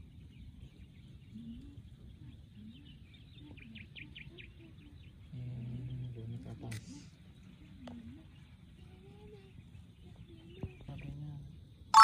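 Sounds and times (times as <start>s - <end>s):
small bird chirping: 0.0s - 11.4s
faint outdoor background noise: 0.0s - 12.0s
low steady hum: 0.0s - 12.0s
faint distant voices: 1.2s - 11.8s.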